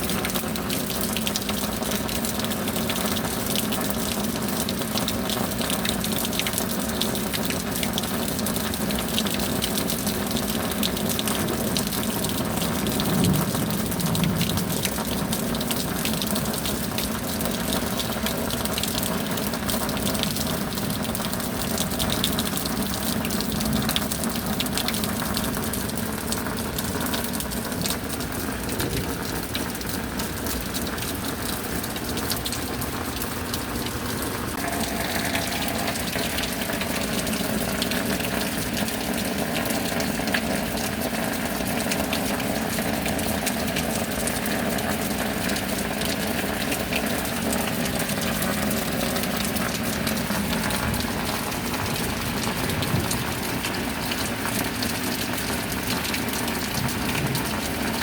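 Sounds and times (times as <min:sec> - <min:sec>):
sharp raindrop ticks: 0:00.0 - 0:58.0
steady rain falling: 0:00.0 - 0:58.0.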